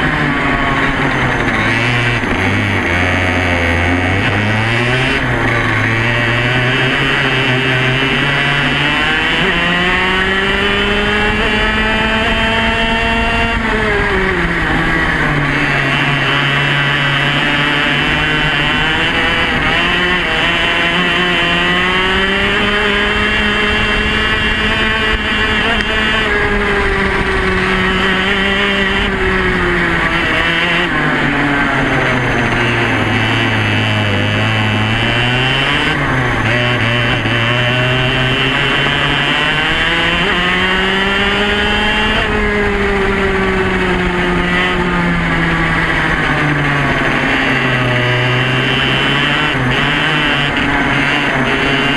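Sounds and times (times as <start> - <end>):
kart engine running hard: 0.0 - 51.9.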